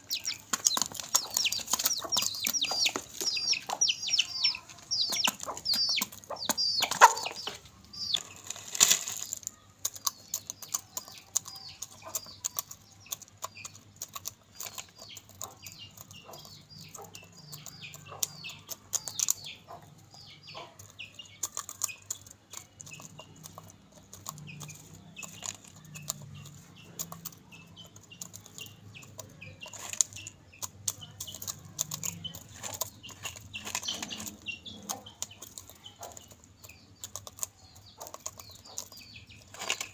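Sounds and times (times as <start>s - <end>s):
chickens pecking and crunching: 0.0s - 39.9s
chicks peeping: 0.0s - 39.9s.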